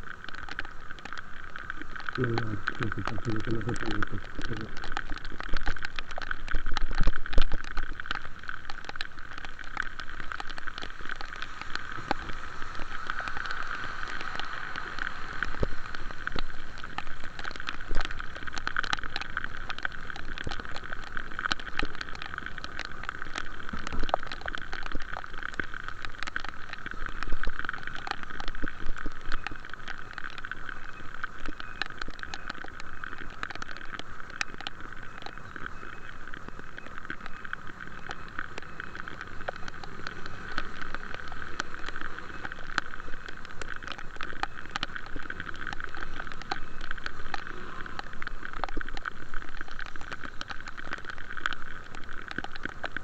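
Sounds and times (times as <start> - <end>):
rain drops ticking: 0.0 - 53.0
steady hum and road noise: 0.0 - 53.0.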